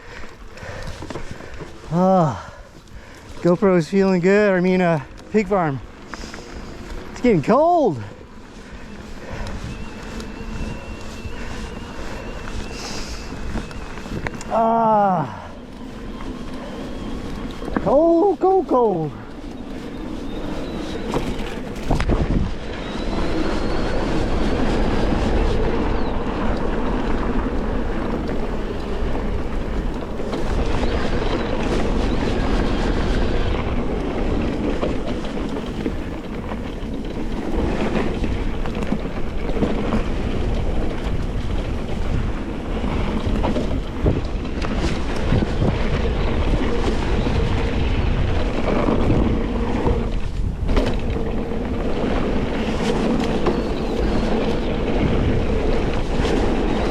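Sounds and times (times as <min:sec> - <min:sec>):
steady rolling drone: 0:00.0 - 0:56.9
wind rushing over microphone: 0:00.0 - 0:56.9.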